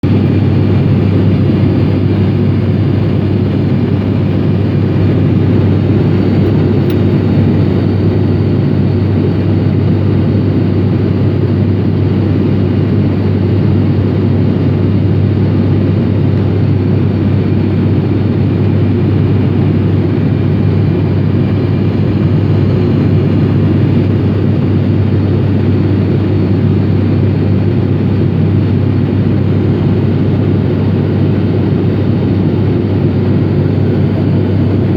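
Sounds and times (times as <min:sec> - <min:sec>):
turboprop engines droning in cabin: 0:00.0 - 0:34.9.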